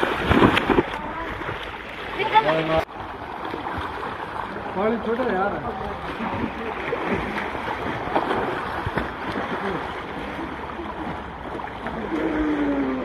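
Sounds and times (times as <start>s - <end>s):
swimmers splashing in pool: 0.0s - 13.0s.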